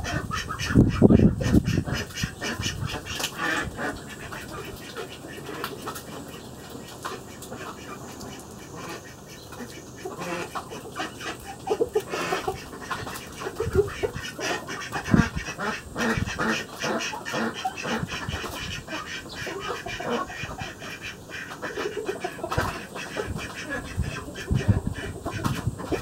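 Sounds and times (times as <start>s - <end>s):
ducks quacking: 0.0s - 26.0s.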